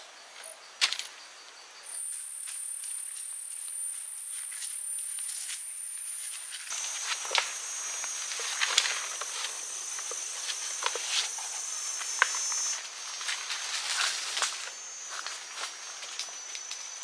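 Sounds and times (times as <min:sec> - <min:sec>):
insects chorus: 0:00.0 - 0:17.0
footsteps crackling: 0:02.8 - 0:16.8.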